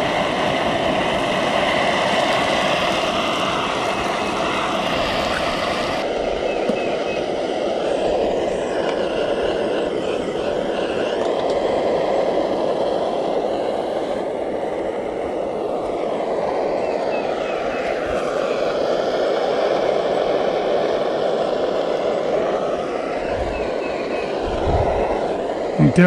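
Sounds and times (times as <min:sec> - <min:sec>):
gas burner rushing: 0:00.0 - 0:26.0.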